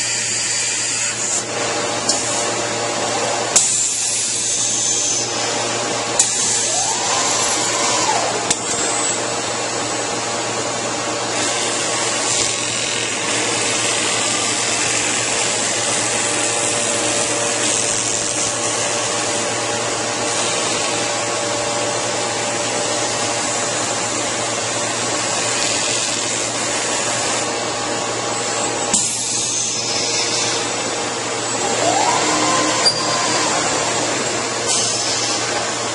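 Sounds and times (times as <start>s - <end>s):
cutting tool hiss: 0.0s - 2.5s, 3.5s - 9.3s, 11.3s - 21.3s, 22.8s - 27.6s, 28.4s - 31.0s, 31.8s - 35.9s
machine whine: 0.0s - 35.9s.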